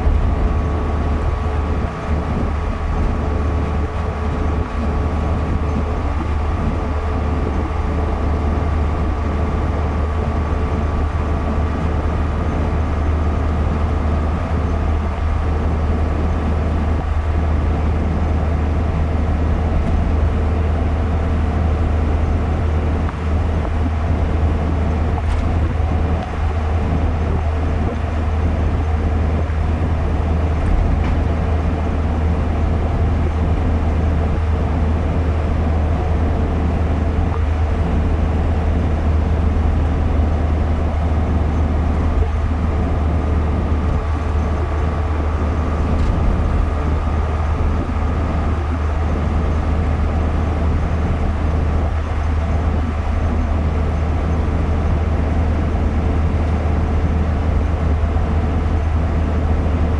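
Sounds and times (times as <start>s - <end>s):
car engine and road drone: 0.0s - 59.9s
faint steady hum: 0.0s - 59.9s.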